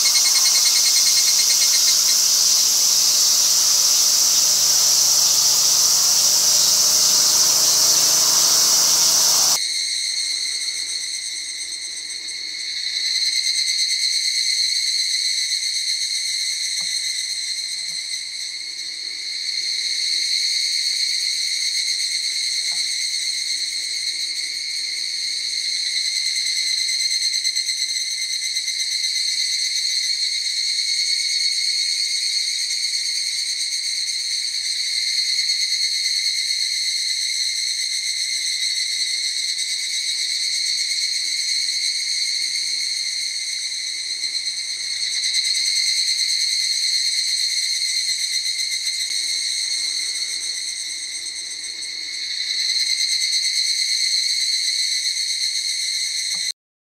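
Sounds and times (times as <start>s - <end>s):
cicada trilling up close: 0.0s - 10.3s, 11.5s - 56.5s
chorus of cicadas: 0.0s - 56.5s.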